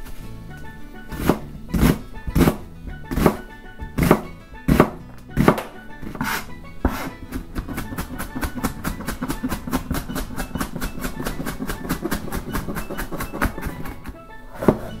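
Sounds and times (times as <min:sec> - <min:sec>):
knife chopping on cutting board: 0:01.1 - 0:15.0.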